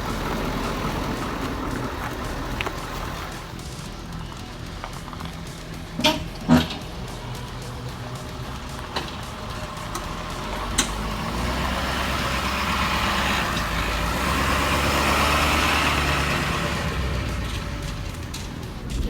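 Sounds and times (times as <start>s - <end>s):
vehicle engine and tyre rumble: 0.0s - 19.0s.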